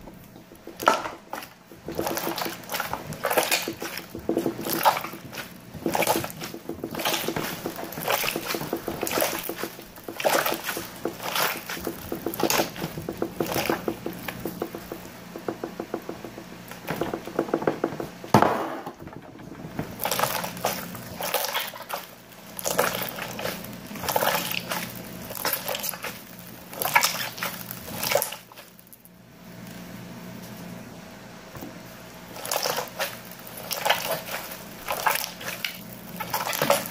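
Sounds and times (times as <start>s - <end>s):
slime squishing: 0.0s - 18.2s, 18.9s - 29.9s, 32.3s - 36.9s.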